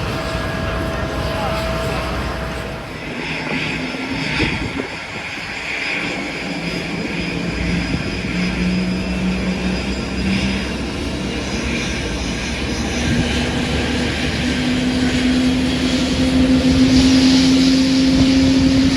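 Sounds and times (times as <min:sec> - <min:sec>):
airliner engines running: 0:00.0 - 0:18.9.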